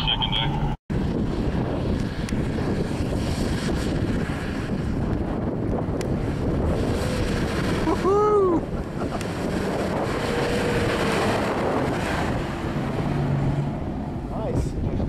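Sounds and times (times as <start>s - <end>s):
car engine working hard: 0.0s - 15.0s
wind buffeting microphone: 0.3s - 15.0s.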